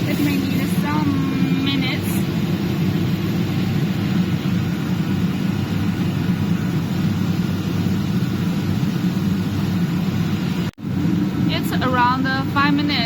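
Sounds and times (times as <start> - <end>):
dehumidifier humming: 0.0 - 13.0.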